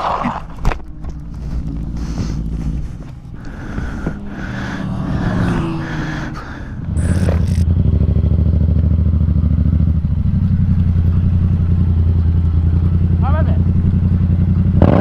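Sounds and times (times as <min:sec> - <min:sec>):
motorcycle engine idling: 0:00.8 - 0:15.0.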